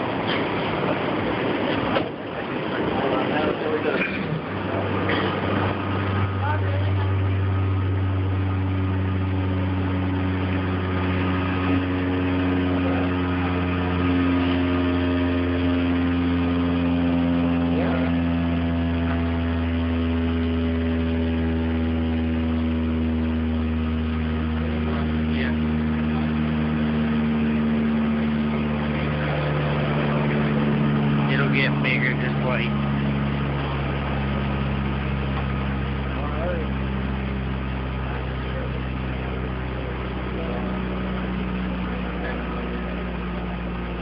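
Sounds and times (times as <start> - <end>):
subwoofer low bass tone: 0.0 - 44.0.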